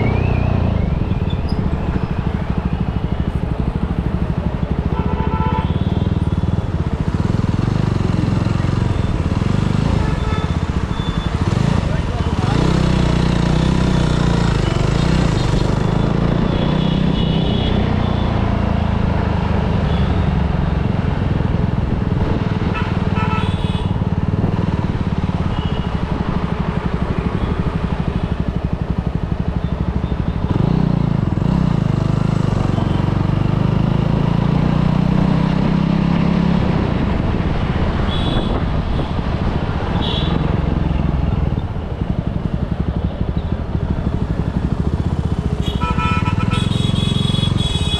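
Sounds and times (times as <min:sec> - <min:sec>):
busy street noise: 0:00.0 - 0:47.9
motorcycle engine running: 0:00.0 - 0:47.9.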